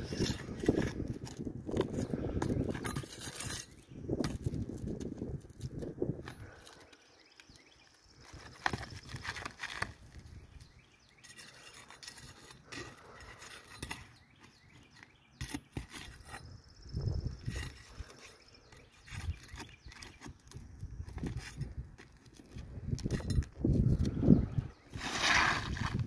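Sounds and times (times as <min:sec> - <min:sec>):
pry bar scraping shingles: 0:00.0 - 0:07.0, 0:08.2 - 0:16.6, 0:17.4 - 0:24.3, 0:24.9 - 0:26.0.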